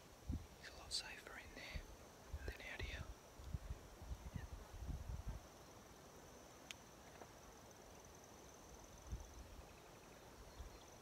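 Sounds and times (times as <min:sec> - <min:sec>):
cricket trilling: 0:00.6 - 0:11.0.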